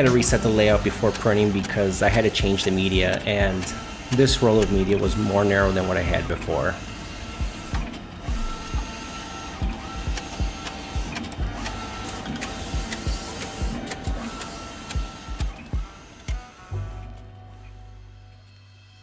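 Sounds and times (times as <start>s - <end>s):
background music with a beat: 0.0s - 19.0s
printer carriage motor whine: 0.0s - 19.0s.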